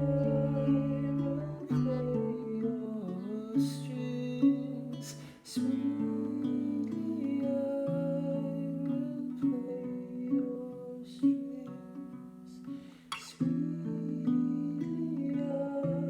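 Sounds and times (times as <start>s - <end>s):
acoustic guitar chords: 0.0s - 16.0s
man singing: 0.0s - 16.0s.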